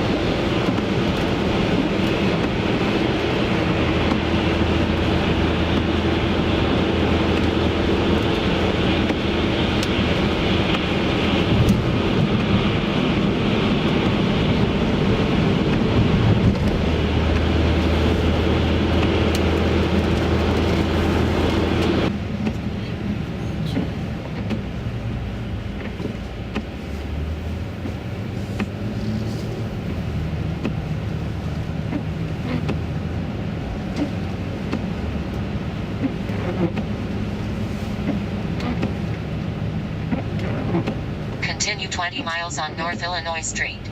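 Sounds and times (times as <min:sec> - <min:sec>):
engine and tyre hum: 0:00.0 - 0:43.9
road rushing noise: 0:00.0 - 0:43.9.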